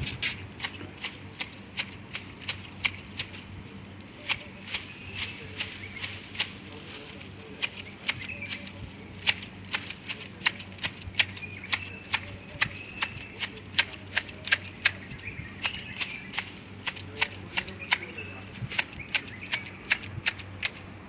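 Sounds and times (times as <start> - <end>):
hand shears snipping twigs: 0.0 - 20.8.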